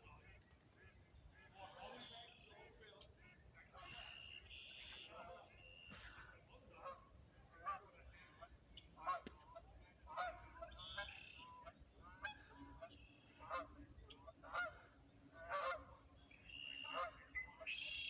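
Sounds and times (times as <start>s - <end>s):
geese honking: 0.1s - 18.0s.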